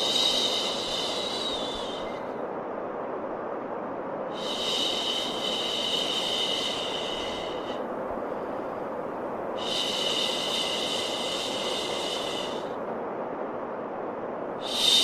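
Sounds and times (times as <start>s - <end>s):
steady white noise: 0.0s - 15.0s.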